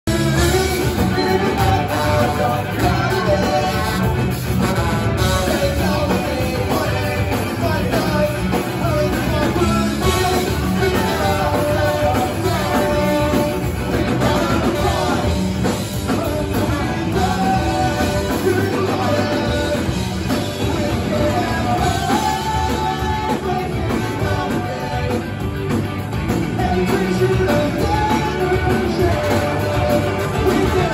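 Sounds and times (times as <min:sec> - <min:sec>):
ska-punk band playing: 0:00.0 - 0:30.9
person singing: 0:00.1 - 0:25.5, 0:26.4 - 0:30.9
trombone and horn lines: 0:00.1 - 0:25.5, 0:26.6 - 0:30.9.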